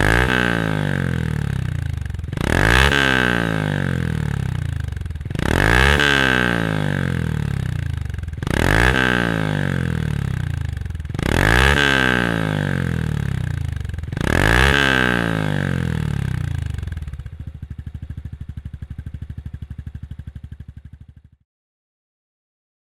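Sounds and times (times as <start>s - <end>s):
motorcycle engine revving and idling: 0.0s - 21.4s.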